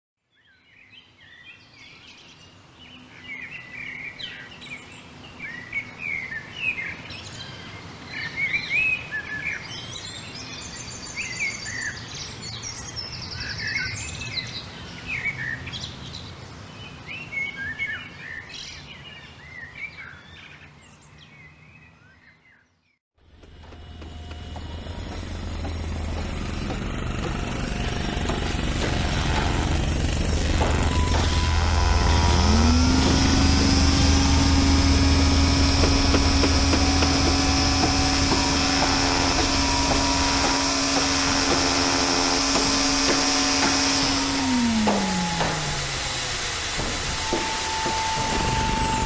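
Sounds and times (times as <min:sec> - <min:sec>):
birds chirping and whistling: 0:00.4 - 0:22.8, 0:28.2 - 0:49.0.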